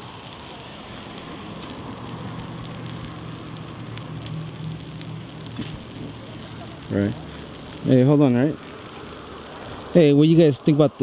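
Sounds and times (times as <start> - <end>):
fire burning with crackles: 0.0 - 11.0.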